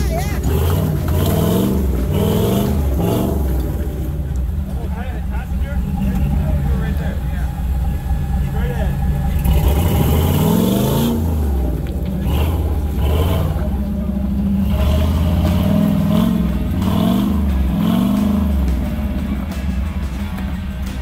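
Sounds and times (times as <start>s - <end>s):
engine revving: 0.0s - 21.0s
steady low rumble: 0.0s - 21.0s.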